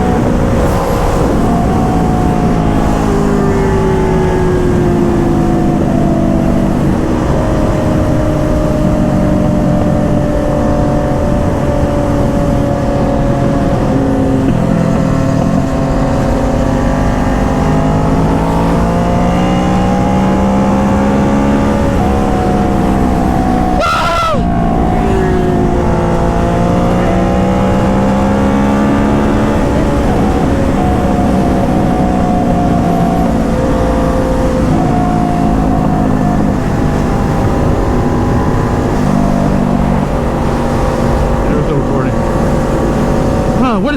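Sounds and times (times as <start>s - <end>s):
motorcycle engines cruising: 0.0s - 43.9s
wind noise rushing: 0.0s - 43.9s.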